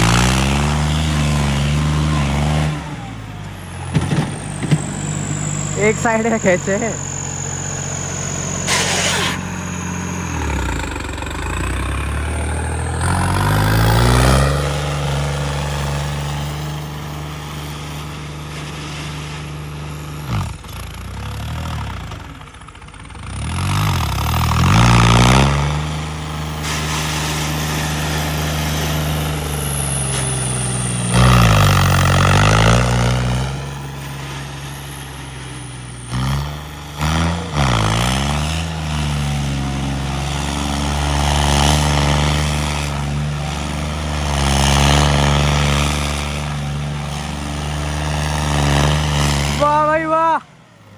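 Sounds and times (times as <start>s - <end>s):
tractor engine revving: 0.0s - 50.9s.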